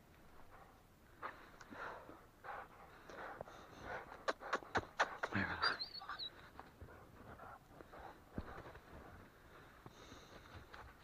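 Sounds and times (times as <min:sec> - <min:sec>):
breathing puffs: 0:00.4 - 0:05.2, 0:06.8 - 0:11.0.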